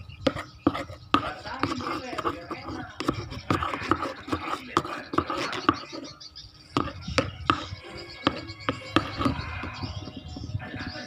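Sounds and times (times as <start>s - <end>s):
spoon scraping a container: 0.2s - 11.0s.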